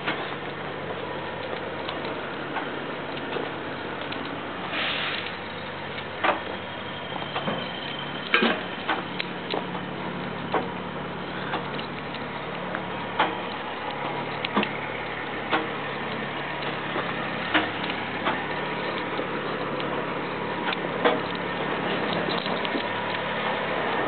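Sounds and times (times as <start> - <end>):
sharp irregular clicks: 0.0 - 4.5, 7.3 - 24.0
engine idling: 0.0 - 24.0.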